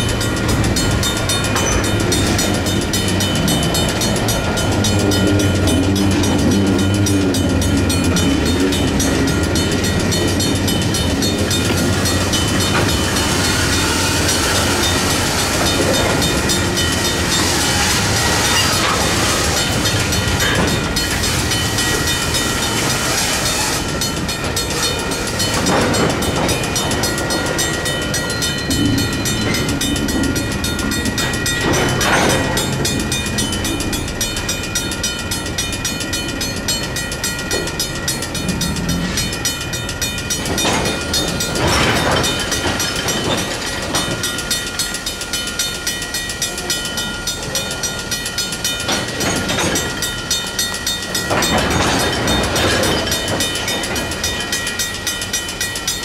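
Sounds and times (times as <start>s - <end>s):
electronic crossing bell ringing: 0.0s - 56.0s
mechanical crossing bell ringing: 0.0s - 56.0s
train cars rolling on rails: 0.0s - 56.0s.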